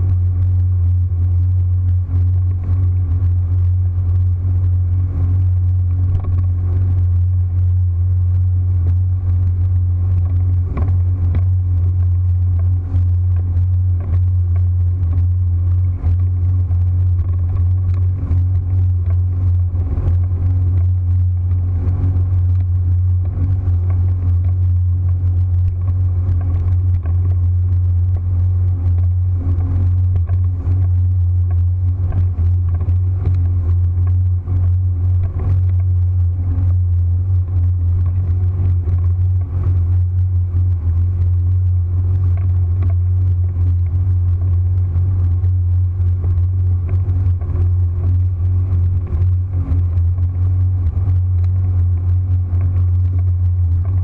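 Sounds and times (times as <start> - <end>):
faint ticks: 0.0 - 54.0
powerboat engine drone: 0.0 - 54.0.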